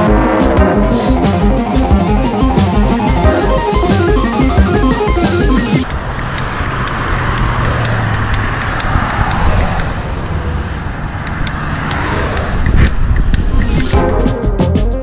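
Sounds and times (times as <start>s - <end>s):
road traffic rushing: 0.0s - 14.0s.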